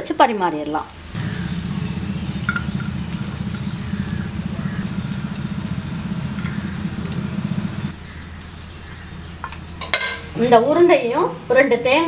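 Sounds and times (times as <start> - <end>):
engine-like rumble: 1.0 - 11.1.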